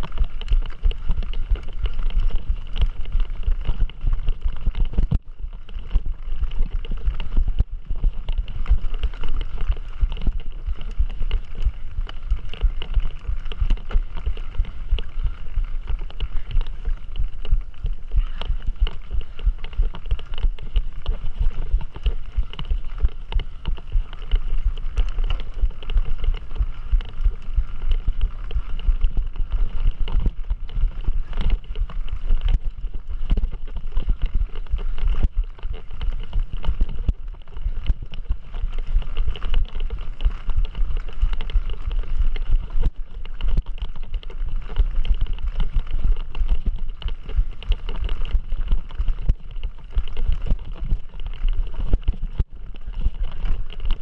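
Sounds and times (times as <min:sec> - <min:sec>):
bike rumbling over rough trail: 0:00.0 - 0:54.0.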